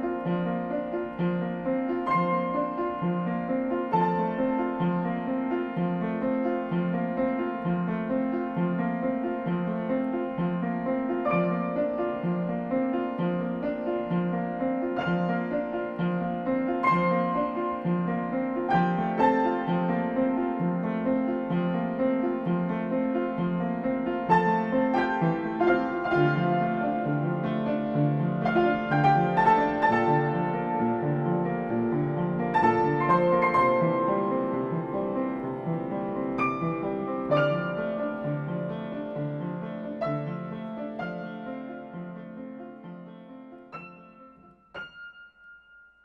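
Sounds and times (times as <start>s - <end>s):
piano melody: 0.0s - 46.0s.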